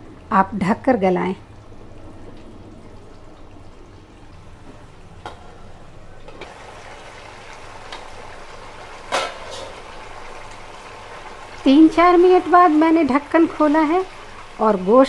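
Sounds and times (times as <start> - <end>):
curry bubbling in a pan: 1.6 - 15.0.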